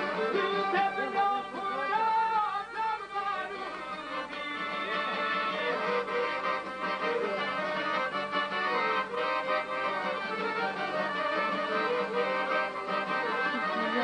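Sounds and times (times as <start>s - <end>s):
accordion and fiddle melody: 0.0s - 14.0s
folk song on vinyl record: 0.0s - 14.0s.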